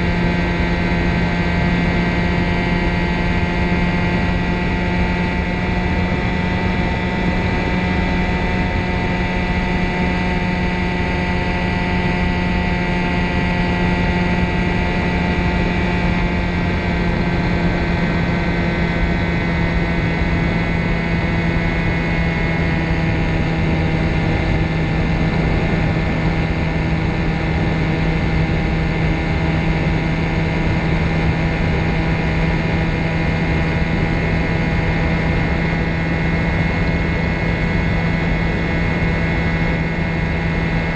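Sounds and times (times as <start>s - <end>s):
engine and propeller running: 0.0s - 40.9s.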